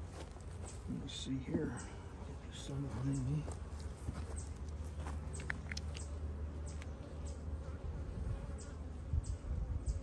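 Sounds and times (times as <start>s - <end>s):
honey bees buzzing: 0.0s - 10.0s.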